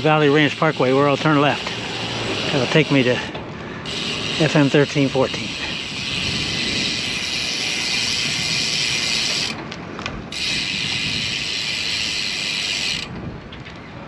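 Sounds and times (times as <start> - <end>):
bike freehub ratcheting: 0.0 - 9.6, 10.3 - 13.2.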